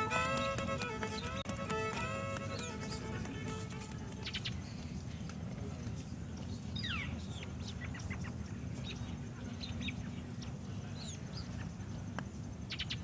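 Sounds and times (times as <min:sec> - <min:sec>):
birds chirping: 0:00.0 - 0:13.0
low steady rumble: 0:00.0 - 0:13.0.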